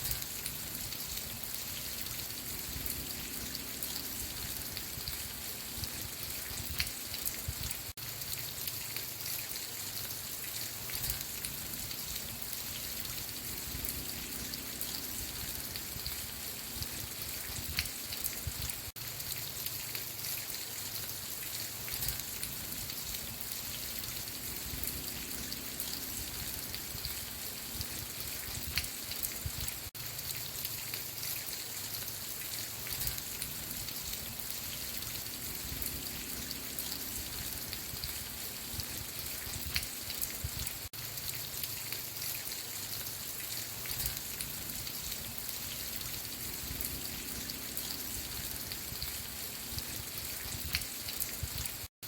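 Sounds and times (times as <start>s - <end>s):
raindrops ticking on a surface: 0.0s - 51.9s
rain hissing: 0.0s - 52.0s.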